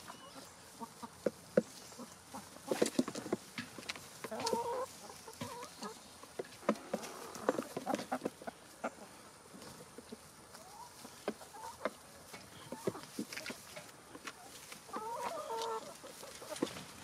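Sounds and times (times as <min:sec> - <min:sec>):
chicken clucking: 0:00.0 - 0:17.0
chickens pecking: 0:00.0 - 0:17.0.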